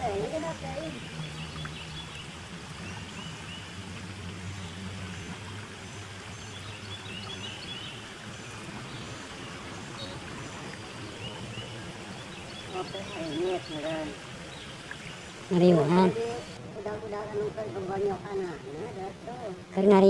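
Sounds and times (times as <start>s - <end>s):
small birds chirping: 0.0s - 16.6s
outdoor background hiss: 0.0s - 20.0s.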